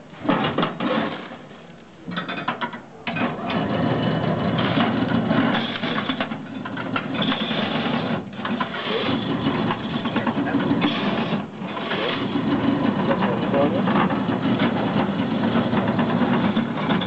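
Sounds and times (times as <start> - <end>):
machine clunks: 0.2 - 17.0
ice shaver machine running: 3.1 - 17.0.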